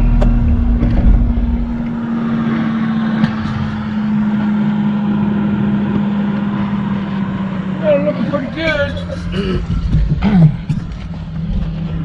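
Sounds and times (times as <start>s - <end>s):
deep engine rumble: 0.0s - 12.0s
excavator engine and hydraulic hum: 0.0s - 12.0s.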